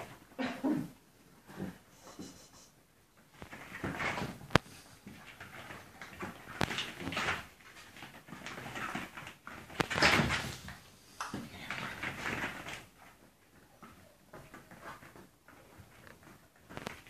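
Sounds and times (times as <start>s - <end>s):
rustling: 1.2s - 17.0s
puppies scuffling: 3.2s - 17.0s.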